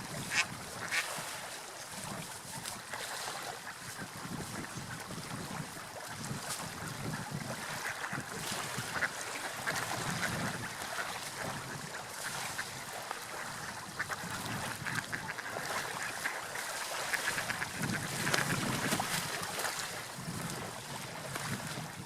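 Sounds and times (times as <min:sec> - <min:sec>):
sea wind: 0:00.0 - 0:22.0
waves washing: 0:00.0 - 0:22.0.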